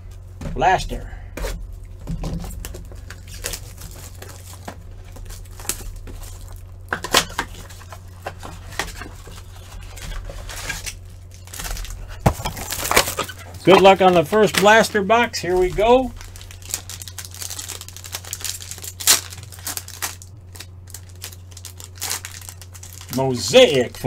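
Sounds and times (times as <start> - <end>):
steady low hum: 0.0 - 24.0
packaging crinkling and tearing: 1.9 - 24.0.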